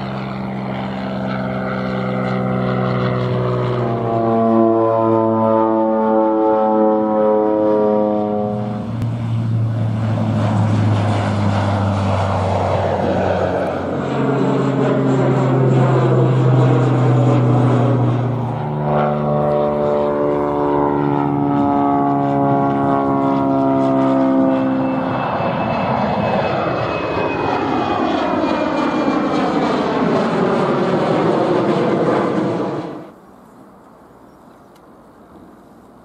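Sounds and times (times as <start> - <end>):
propeller aircraft drone: 0.0 - 36.0.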